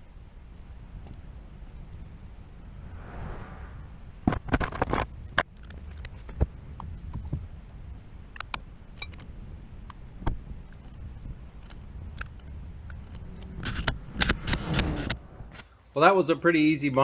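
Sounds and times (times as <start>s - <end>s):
low steady rumble: 0.0s - 15.8s.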